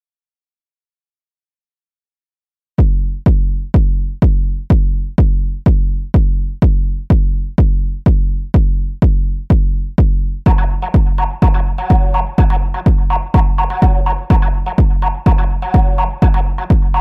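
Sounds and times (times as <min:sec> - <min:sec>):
electronic kick drum: 0:02.8 - 0:17.0.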